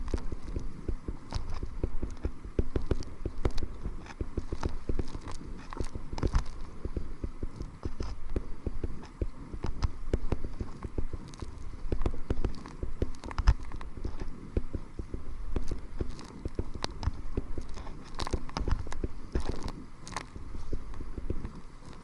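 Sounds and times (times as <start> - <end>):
water slapping against a kayak hull: 0.0 - 22.0
wind buffeting microphone: 0.0 - 22.0.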